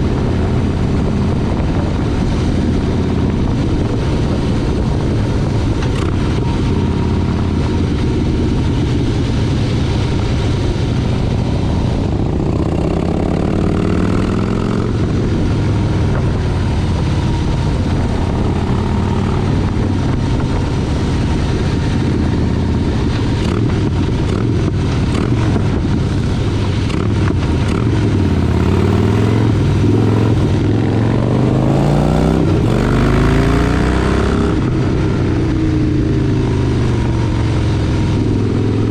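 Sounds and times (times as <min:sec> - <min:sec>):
motorcycle engine accelerating: 0:00.0 - 0:38.9
steady low rumble: 0:00.0 - 0:38.9.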